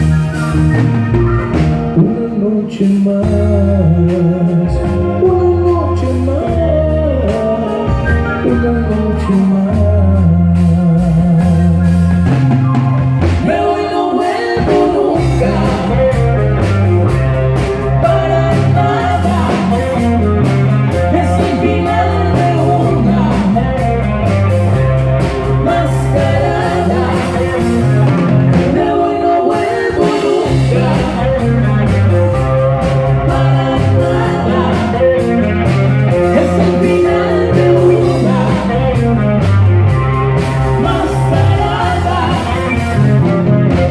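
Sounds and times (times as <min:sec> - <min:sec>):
live band playing: 0:00.0 - 0:43.9
lead singer singing: 0:00.1 - 0:43.9.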